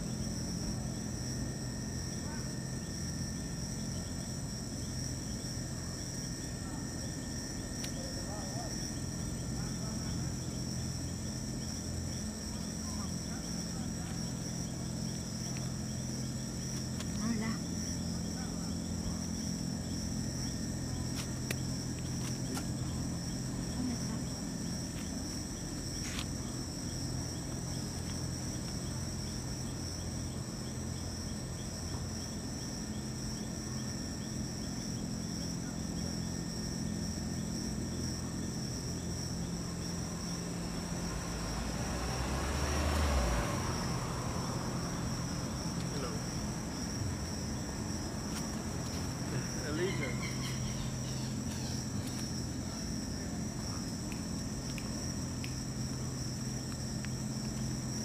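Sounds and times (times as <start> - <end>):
insects trilling: 0.0 - 58.0
low steady hum: 0.0 - 58.0.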